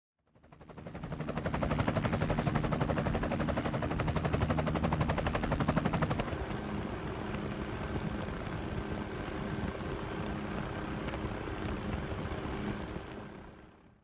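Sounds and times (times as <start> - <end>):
aircraft engine noise with whine: 0.3 - 14.0
helicopter rotor beating: 0.3 - 14.0.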